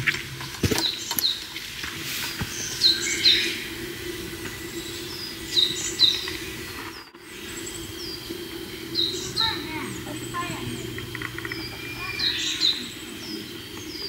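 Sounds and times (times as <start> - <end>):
small birds chirping: 0.6 - 1.6, 2.2 - 14.0.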